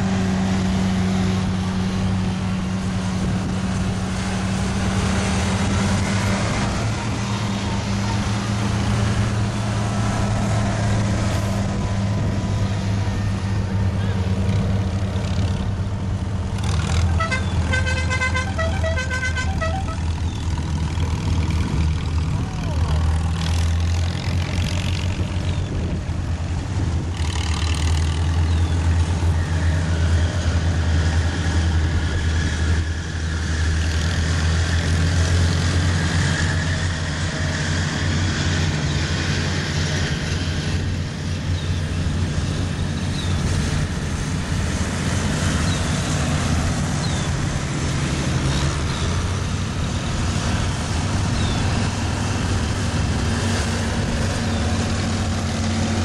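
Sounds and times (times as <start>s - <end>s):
tractor engines running: 0.0s - 56.0s.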